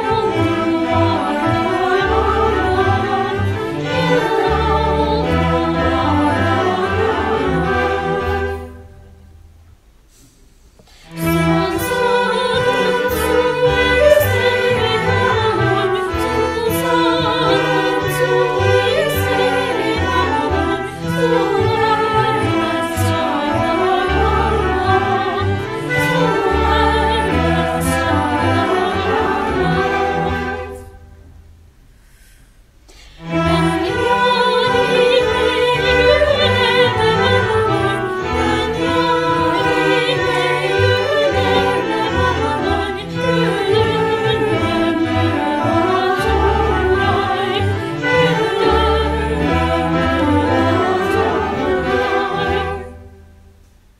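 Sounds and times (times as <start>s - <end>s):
mixed choir singing: 0.0s - 9.0s, 11.1s - 31.0s, 33.2s - 53.2s
clarinet: 0.0s - 9.2s, 10.9s - 31.2s, 33.2s - 53.6s
string orchestra: 0.0s - 9.6s, 10.8s - 31.3s, 32.9s - 53.6s.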